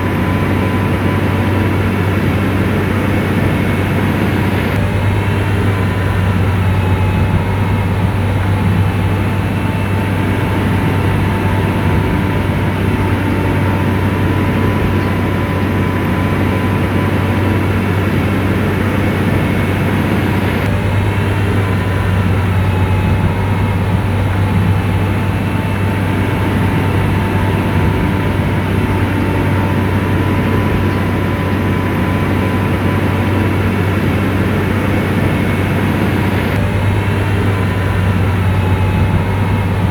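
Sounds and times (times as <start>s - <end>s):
bulldozer diesel engine droning: 0.0s - 39.9s
faint whining tones: 0.0s - 39.9s.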